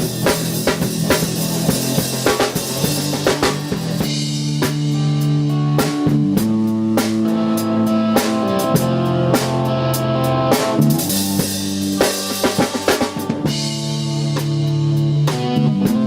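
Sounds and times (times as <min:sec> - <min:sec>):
bass guitar notes: 0:00.0 - 0:16.0
drum kit beat: 0:00.0 - 0:16.0
electric guitar notes: 0:00.0 - 0:16.0.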